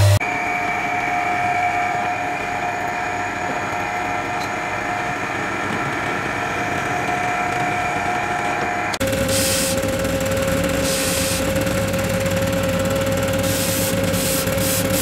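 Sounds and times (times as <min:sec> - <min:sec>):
drill press whining: 0:00.0 - 0:15.0.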